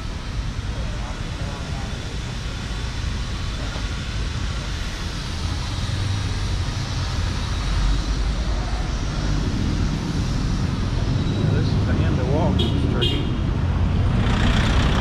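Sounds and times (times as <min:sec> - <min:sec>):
traffic engine rumble: 0:00.0 - 0:15.0.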